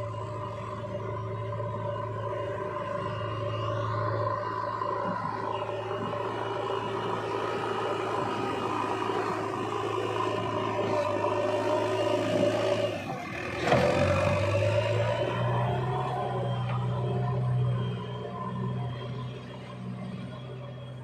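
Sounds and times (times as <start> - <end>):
diesel engine running under load: 0.0 - 21.0.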